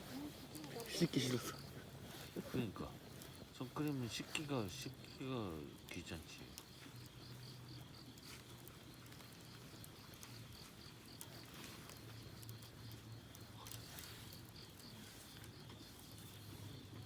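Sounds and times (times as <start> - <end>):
campfire crackling: 0.0 - 17.0
insect chirping: 0.1 - 17.0.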